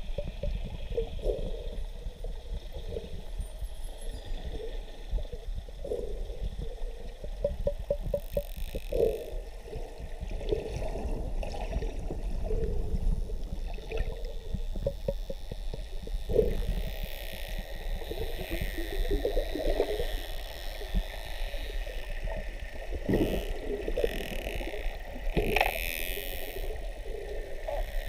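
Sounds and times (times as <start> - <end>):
underwater rumble and gurgling: 0.0 - 28.0.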